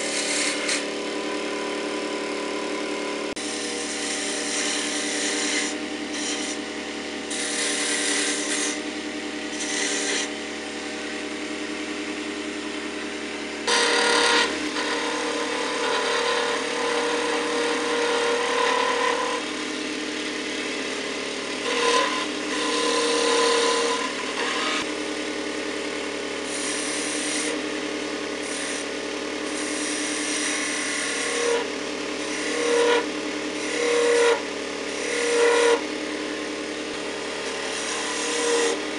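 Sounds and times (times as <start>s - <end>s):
chisel scraping spinning wood: 0.0s - 38.9s
wood lathe motor hum: 0.0s - 38.9s.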